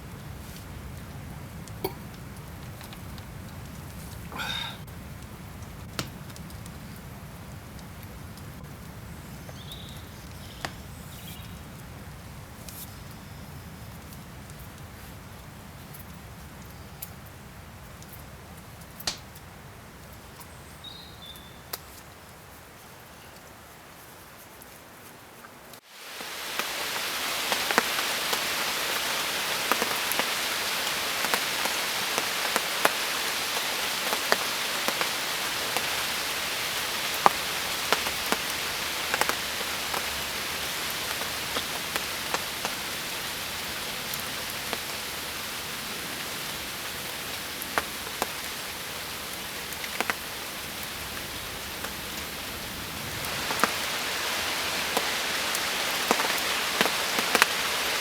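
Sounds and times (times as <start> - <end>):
raindrops striking close by: 0.0 - 58.0
steady rain falling: 0.0 - 58.0.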